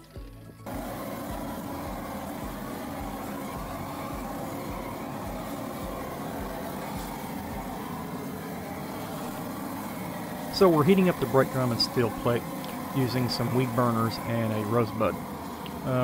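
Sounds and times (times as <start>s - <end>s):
propane torch burning: 0.0s - 16.0s.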